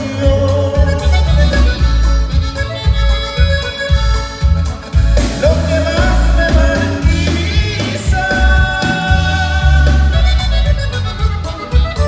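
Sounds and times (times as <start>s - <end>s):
saxophone: 0.0s - 7.0s, 7.8s - 12.0s
bass guitar: 0.0s - 12.0s
button accordion: 0.0s - 12.0s
drums: 0.0s - 12.0s
guitar: 0.0s - 12.0s.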